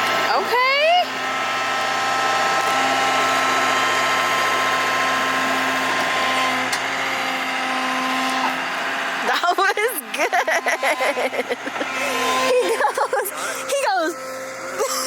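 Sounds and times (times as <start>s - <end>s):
diesel engine and hydraulics: 0.0s - 15.0s.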